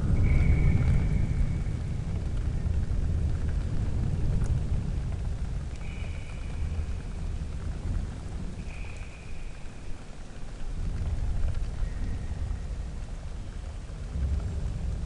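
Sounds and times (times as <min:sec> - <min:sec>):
steady rain: 0:00.0 - 0:15.0
thunder rolling: 0:00.0 - 0:15.0.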